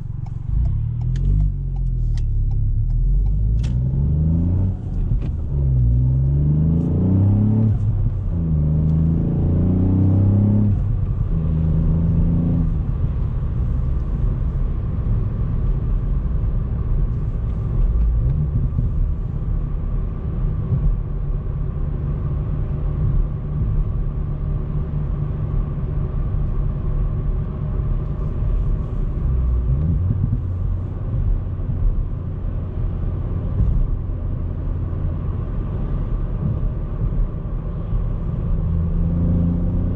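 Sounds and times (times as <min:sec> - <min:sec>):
car engine accelerating: 0:00.0 - 0:39.9
low road rumble: 0:00.0 - 0:39.9.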